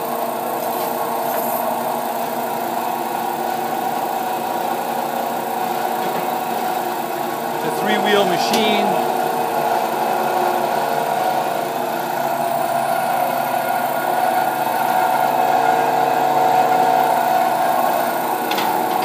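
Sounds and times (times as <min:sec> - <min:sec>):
bandsaw machine hum: 0:00.0 - 0:19.0.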